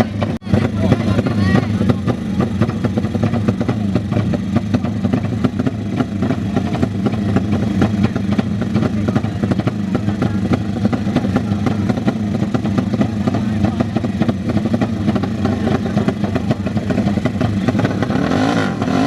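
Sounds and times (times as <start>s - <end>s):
engine crackle: 0.0s - 19.0s
motorcycle engines droning: 0.0s - 19.0s.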